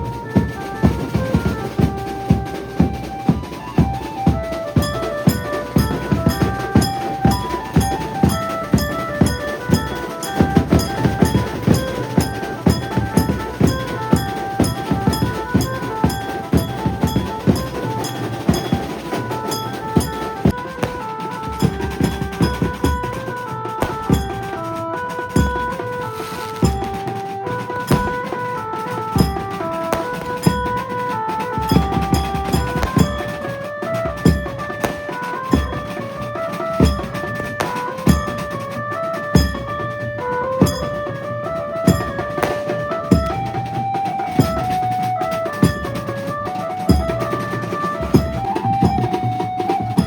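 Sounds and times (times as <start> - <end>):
banjo melody: 0.0 - 50.0
loud driving drums: 0.0 - 50.0.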